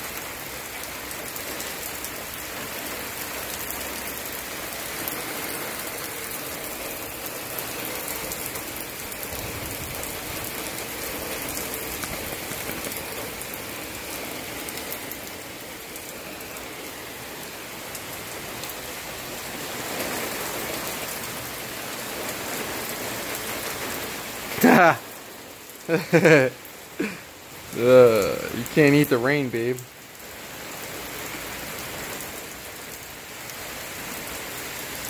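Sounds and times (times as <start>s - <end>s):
rain on pavement: 0.0s - 35.0s.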